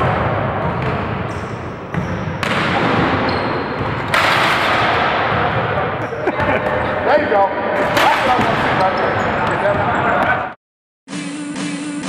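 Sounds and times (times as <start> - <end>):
echoing team practice noise: 0.0 - 10.6.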